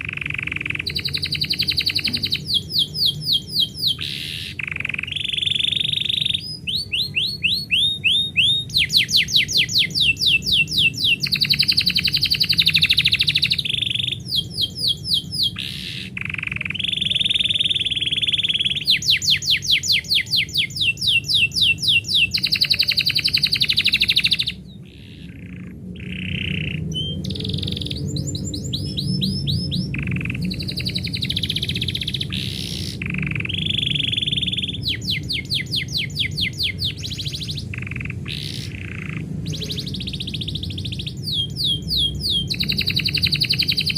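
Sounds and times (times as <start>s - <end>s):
canary singing: 0.0s - 43.9s
steady low hum: 0.0s - 43.9s.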